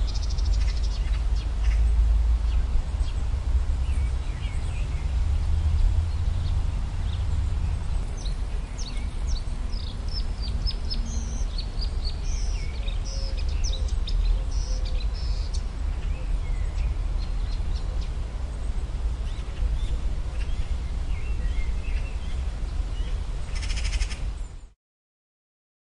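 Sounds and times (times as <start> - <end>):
low background rumble: 0.0 - 24.6
bird singing chirps and trills: 0.0 - 24.7.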